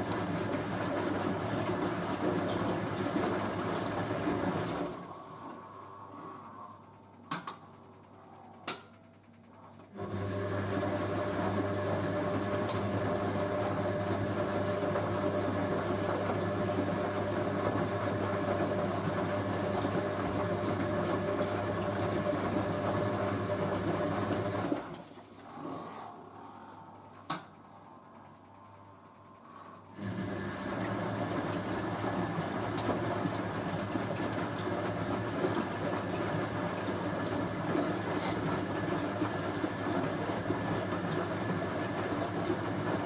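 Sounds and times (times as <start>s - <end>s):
washing machine humming: 0.0s - 43.0s.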